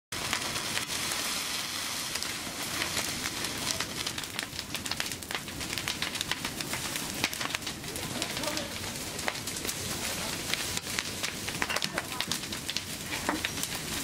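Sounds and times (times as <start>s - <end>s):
fire crackling and popping: 0.1s - 14.0s.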